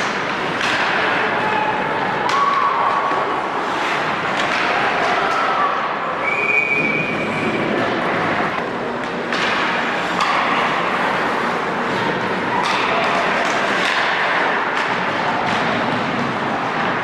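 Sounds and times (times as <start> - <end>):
hockey stick and puck clacks: 0.0 - 6.0, 6.8 - 17.0.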